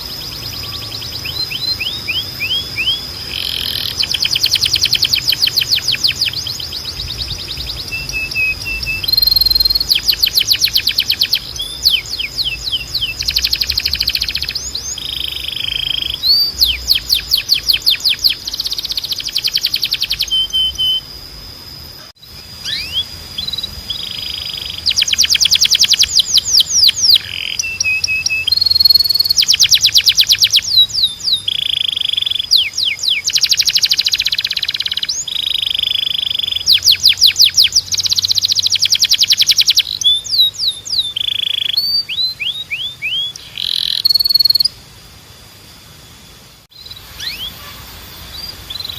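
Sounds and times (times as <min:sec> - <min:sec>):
canary singing trills: 0:00.0 - 0:21.2, 0:21.9 - 0:44.8, 0:46.7 - 0:48.9.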